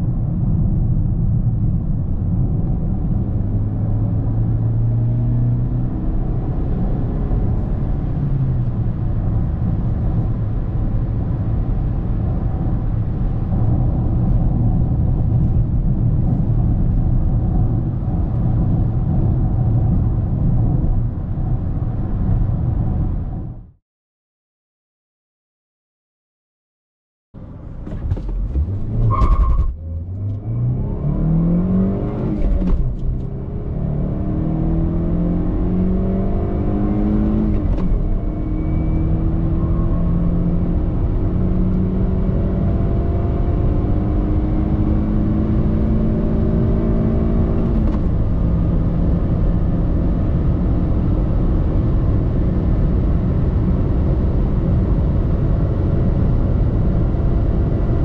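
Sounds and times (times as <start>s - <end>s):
car engine accelerating: 0.4s - 23.5s, 27.4s - 58.0s.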